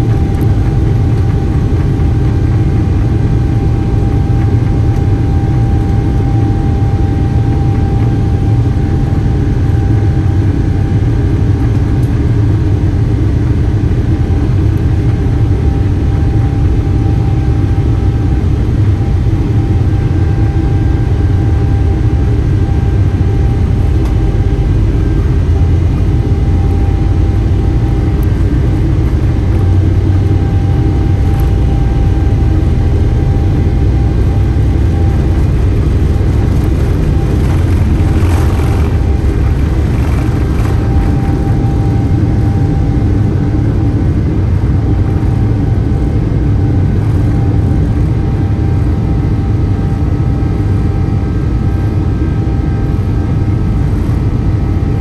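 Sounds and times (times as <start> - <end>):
jet engines low rumble: 0.0 - 55.0
thin engine whine: 0.0 - 55.0.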